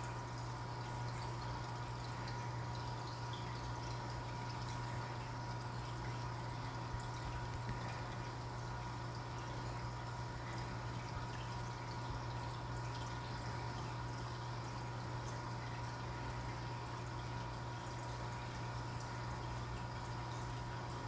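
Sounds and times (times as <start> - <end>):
aquarium air bubbling: 0.0 - 21.0.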